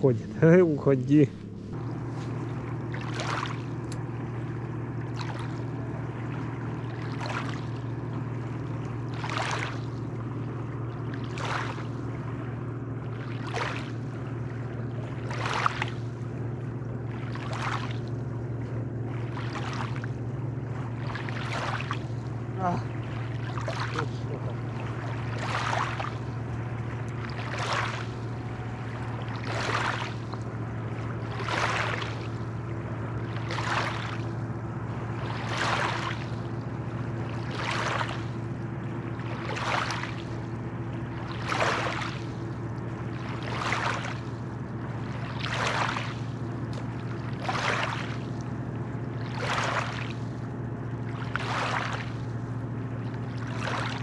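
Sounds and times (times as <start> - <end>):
small waves lapping on pebbles: 0.0 - 54.0
steady low hum: 0.0 - 54.0.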